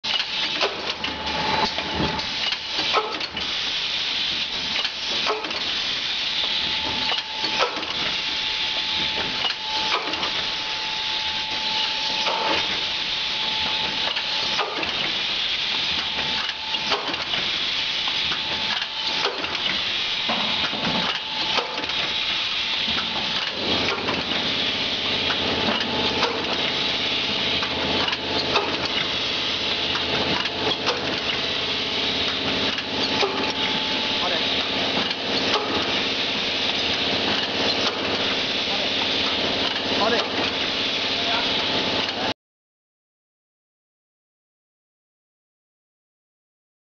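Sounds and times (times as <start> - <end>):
filling machine mechanical hiss: 0.1 - 42.3.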